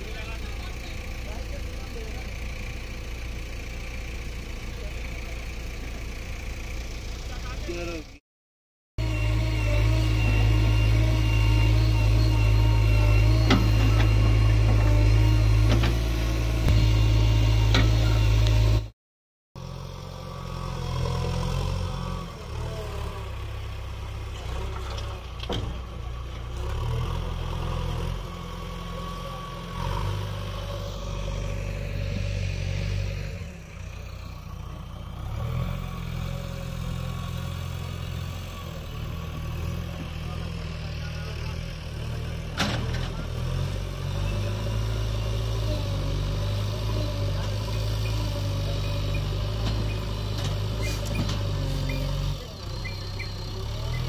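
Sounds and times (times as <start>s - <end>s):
diesel engines running: 0.0s - 8.2s, 9.0s - 18.9s, 19.6s - 54.0s.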